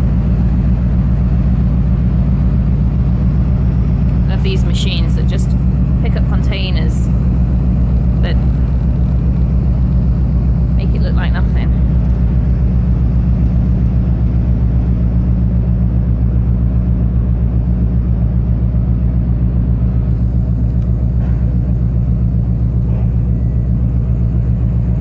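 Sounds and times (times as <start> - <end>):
ship diesel engine droning: 0.0 - 25.0.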